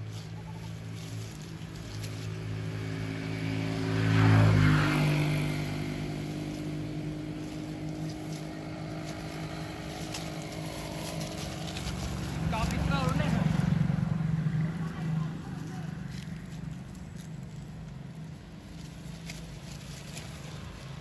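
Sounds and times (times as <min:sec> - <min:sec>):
vehicle engine hum passing: 0:00.0 - 0:21.0.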